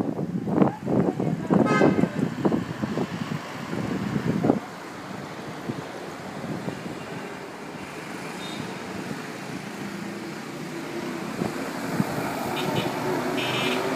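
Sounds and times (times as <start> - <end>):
hum of outdoor traffic: 0.0 - 13.9.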